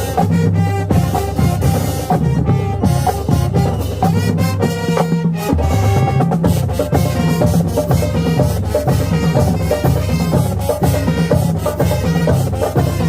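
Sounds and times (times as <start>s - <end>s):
drums striking a steady beat: 0.0s - 13.0s
brass holding chords: 0.4s - 13.0s.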